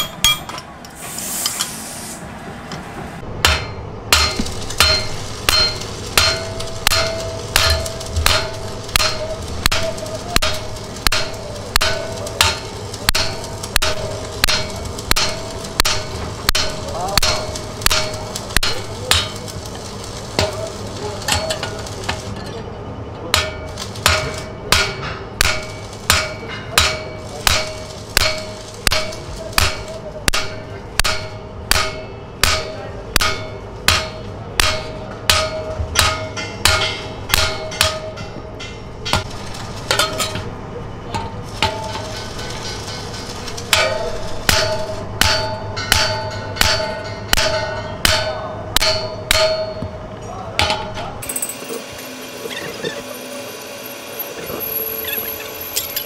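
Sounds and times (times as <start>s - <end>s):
hammer striking metal: 0.0s - 0.8s, 3.3s - 19.6s, 20.3s - 22.5s, 23.3s - 56.0s.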